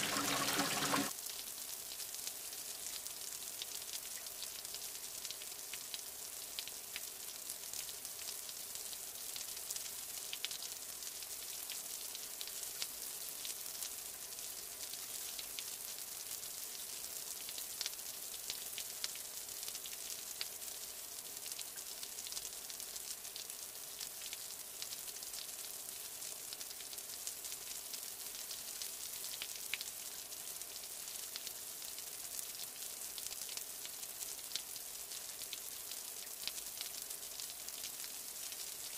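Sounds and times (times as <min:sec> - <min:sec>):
rain falling: 0:00.0 - 0:12.8, 0:13.7 - 0:38.9.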